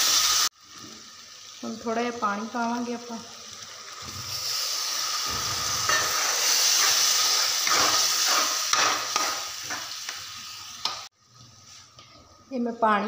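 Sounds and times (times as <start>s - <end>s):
water hissing in a hot pan: 0.0s - 11.1s.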